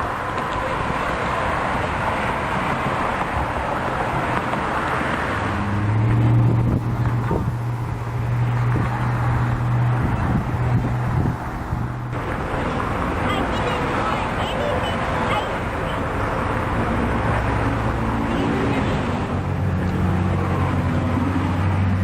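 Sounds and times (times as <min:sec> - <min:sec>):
car passing: 0:00.0 - 0:22.0
low engine hum: 0:00.0 - 0:22.0.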